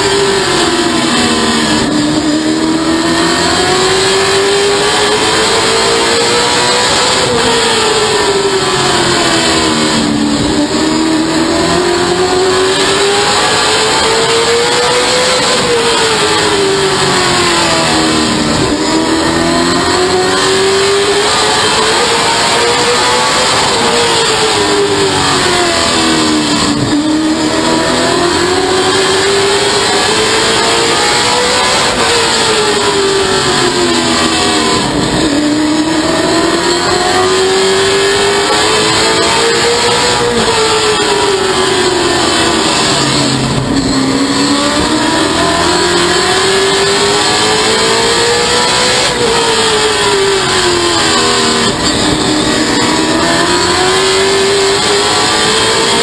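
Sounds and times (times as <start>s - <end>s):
race car engine revving: 0.0s - 56.0s
road and wind noise: 0.0s - 56.0s.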